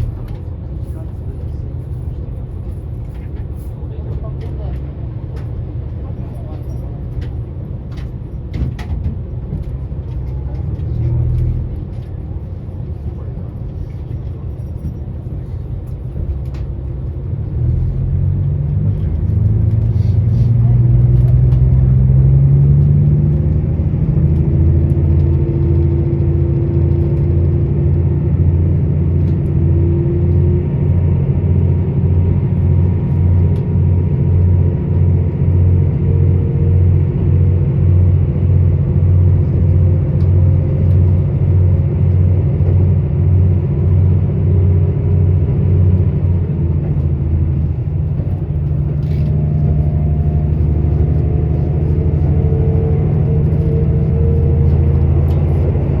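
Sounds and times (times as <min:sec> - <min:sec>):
diesel railcar engine drone: 0:00.0 - 0:56.0.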